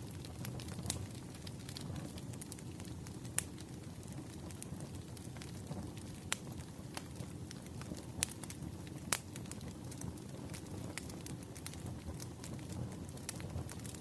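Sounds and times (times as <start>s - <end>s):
campfire crackling: 0.0s - 14.0s
sharp pops of burning wood: 0.0s - 14.0s.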